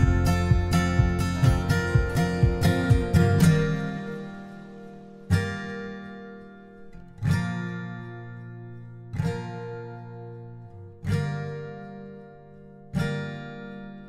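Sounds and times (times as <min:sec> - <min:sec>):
acoustic guitar chords strummed: 0:00.0 - 0:14.0.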